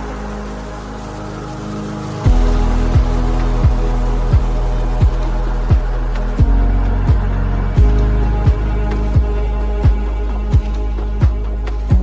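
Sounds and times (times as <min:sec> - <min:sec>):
sustained synth chord: 0:00.0 - 0:12.0
deep bass-drum beats: 0:02.3 - 0:12.0.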